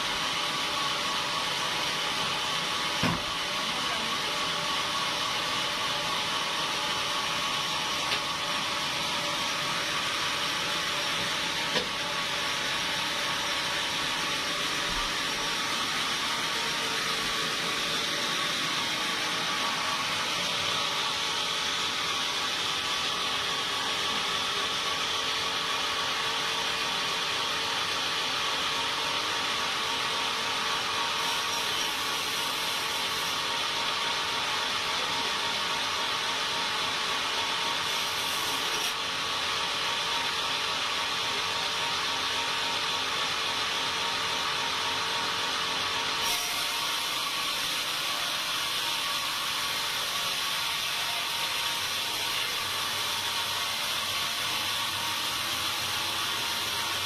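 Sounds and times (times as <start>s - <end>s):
sawmill machinery whine: 0.0s - 57.0s.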